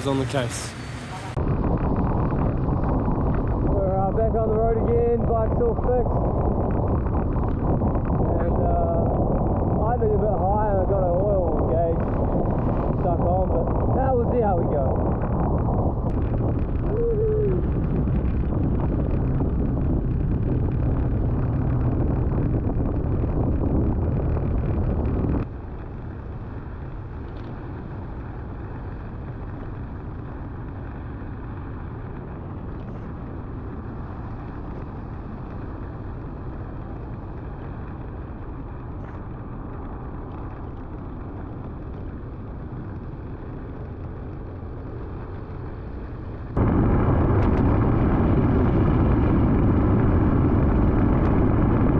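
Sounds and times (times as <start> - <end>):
motorbike engine and wind rumble: 0.0 - 51.9.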